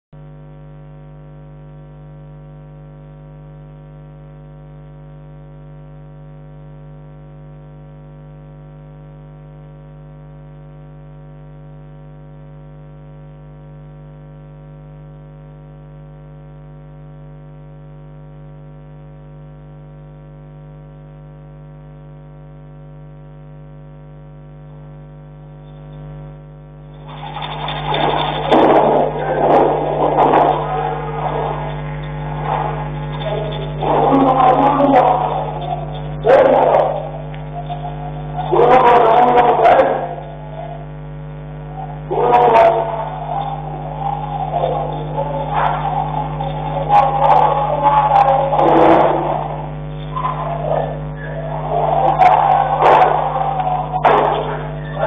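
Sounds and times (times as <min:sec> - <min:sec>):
steady electrical hum: 0:00.1 - 0:55.0.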